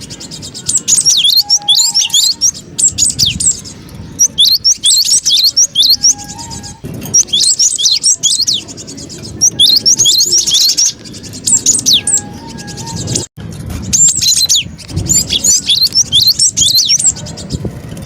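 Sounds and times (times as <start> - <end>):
bird chirping in rapid bursts: 0.0 - 17.7.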